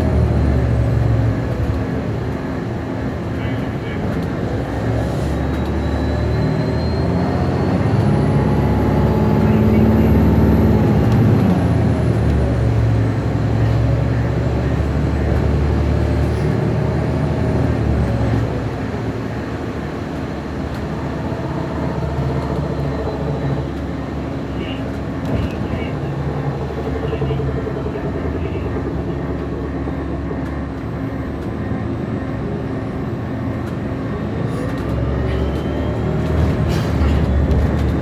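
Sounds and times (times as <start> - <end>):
bus drivetrain rumble: 0.0 - 38.0.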